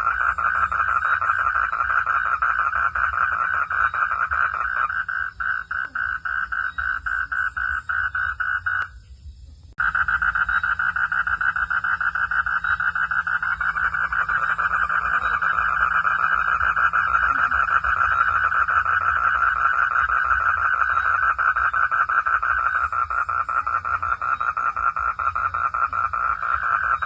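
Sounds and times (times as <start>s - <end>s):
frogs calling in pulsing trill: 0.0s - 27.0s.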